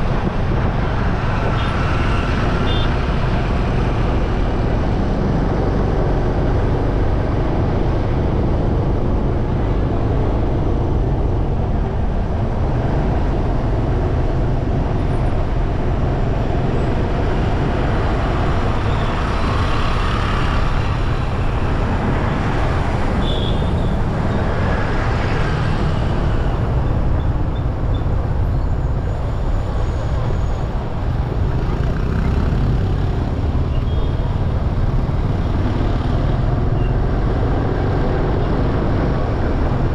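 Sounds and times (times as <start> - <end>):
road traffic noise: 0.0 - 39.9
wind rumble on microphone: 0.0 - 39.9.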